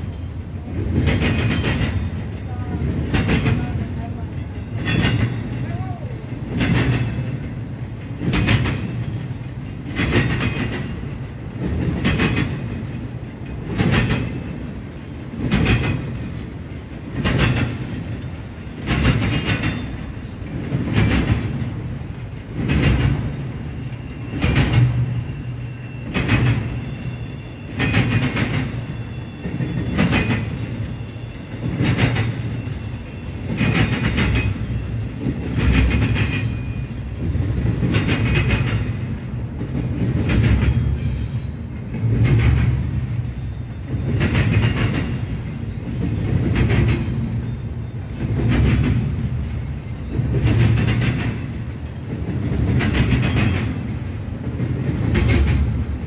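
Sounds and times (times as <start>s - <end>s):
freight train rumble: 0.0s - 56.0s
train wheels clacking: 0.0s - 56.0s.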